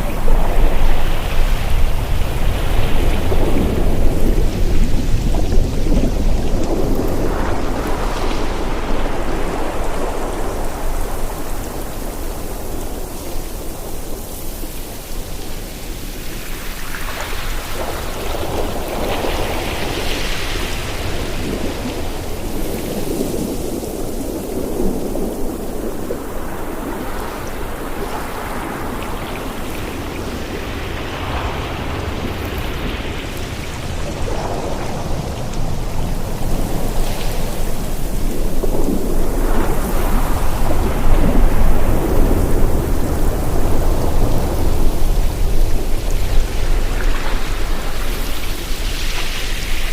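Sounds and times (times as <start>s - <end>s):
sea waves washing onto shore: 0.0s - 49.9s
wind rumbling on microphone: 0.0s - 49.9s.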